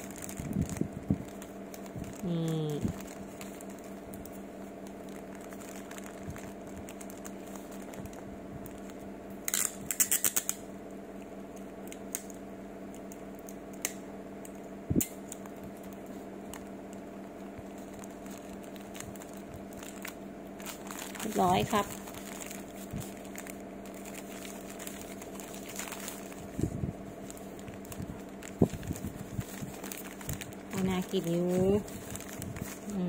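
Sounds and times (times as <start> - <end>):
paper wrapper crinkling: 0.0 - 10.6, 15.2 - 33.0
steady low hum: 0.0 - 33.0.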